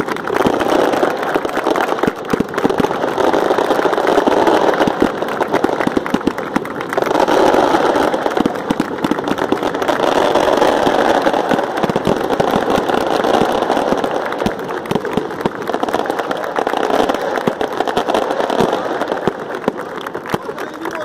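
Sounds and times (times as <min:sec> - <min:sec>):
crowd clapping: 0:00.0 - 0:21.0.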